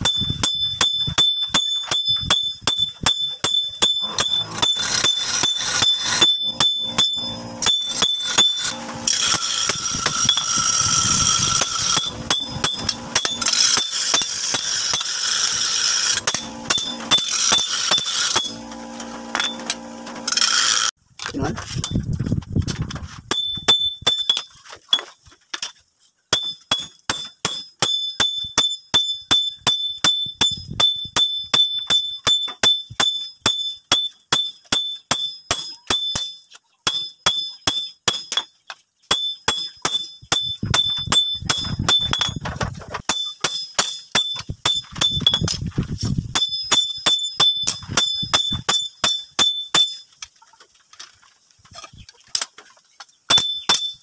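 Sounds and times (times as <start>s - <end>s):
hammer striking hot steel on anvil: 0.0s - 20.9s, 26.3s - 38.5s, 39.1s - 45.6s, 46.3s - 50.2s, 53.3s - 54.0s.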